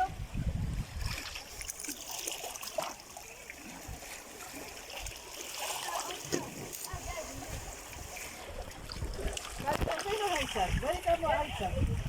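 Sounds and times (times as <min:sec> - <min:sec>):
sea water splashing and trickling: 0:00.0 - 0:12.0.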